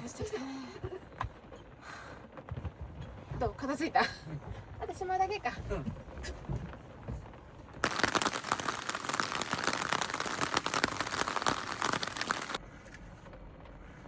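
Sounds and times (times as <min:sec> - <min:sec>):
heavy rain on a surface: 0:00.9 - 0:12.6.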